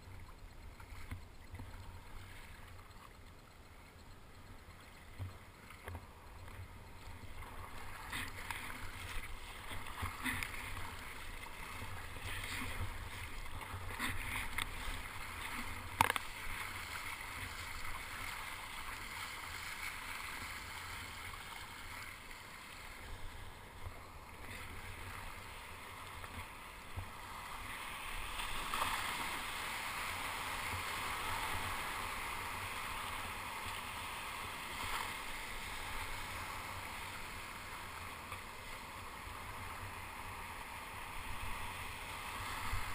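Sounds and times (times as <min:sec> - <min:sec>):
paddle strokes: 0:00.0 - 0:42.9
water splashing around kayak: 0:00.0 - 0:42.9.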